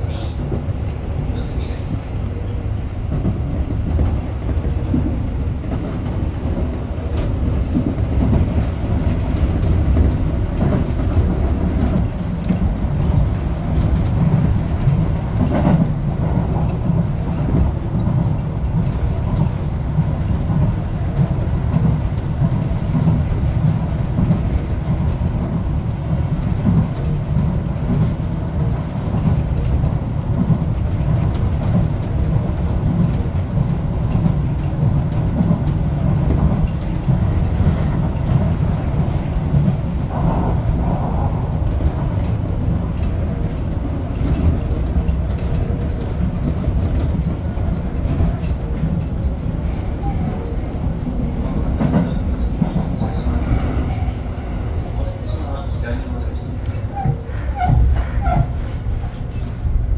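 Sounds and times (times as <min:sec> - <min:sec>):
wheels rumbling on rail: 0:00.0 - 0:59.9
faint rail-joint clicks: 0:03.1 - 0:59.6.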